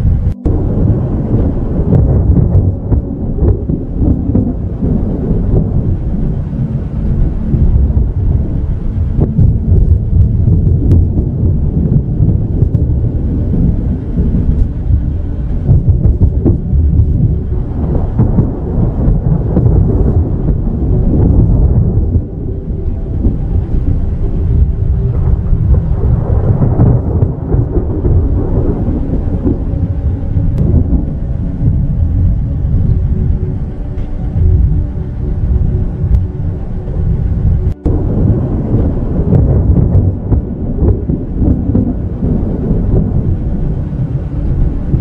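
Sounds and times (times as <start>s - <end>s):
low rumble of thunder: 0.0s - 45.0s.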